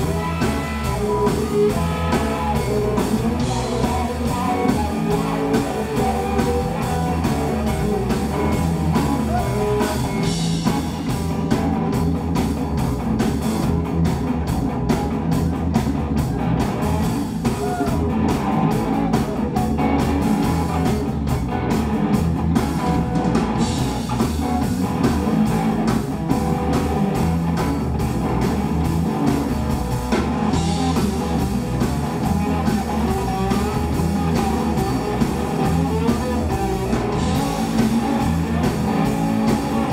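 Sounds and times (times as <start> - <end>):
electric blues band: 0.0 - 39.9.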